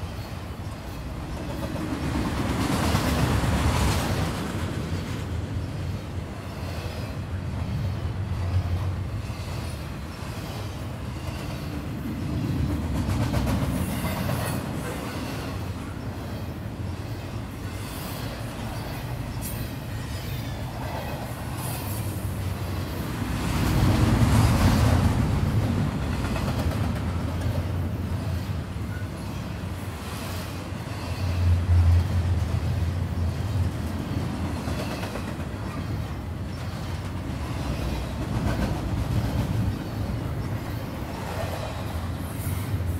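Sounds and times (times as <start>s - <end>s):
freight train wheels on rail: 0.0s - 42.9s.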